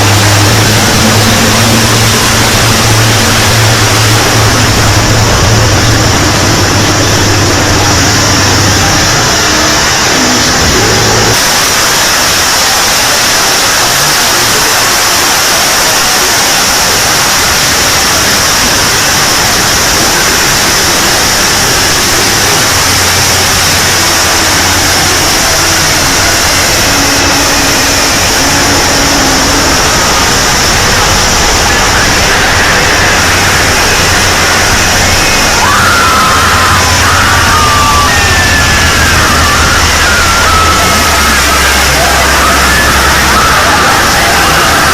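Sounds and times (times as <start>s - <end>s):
loud harsh broadband noise: 0.0s - 44.9s.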